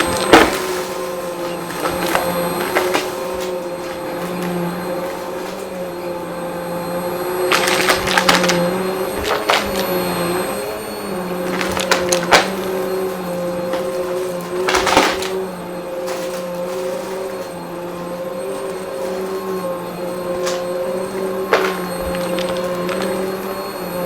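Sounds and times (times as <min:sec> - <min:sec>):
debris crackling in vacuum: 0:00.0 - 0:24.0
vacuum cleaner running: 0:00.0 - 0:24.0.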